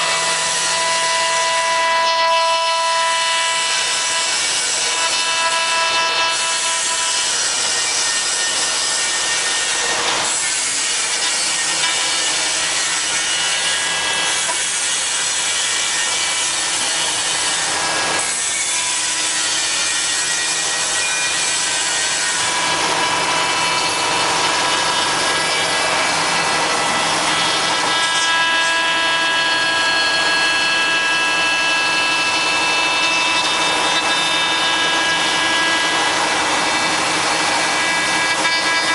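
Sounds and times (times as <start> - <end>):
router spindle cutting wood: 0.0 - 38.9.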